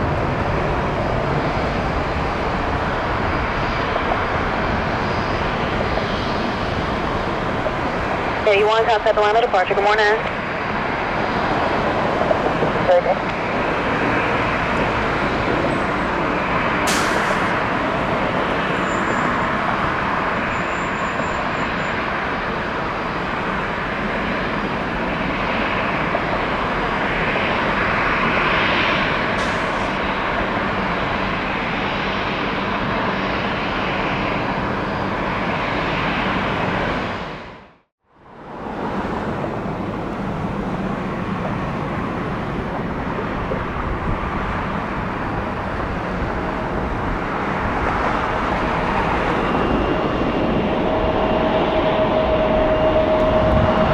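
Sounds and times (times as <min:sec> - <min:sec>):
jet engine rushing: 0:00.0 - 0:37.7, 0:38.5 - 0:53.9.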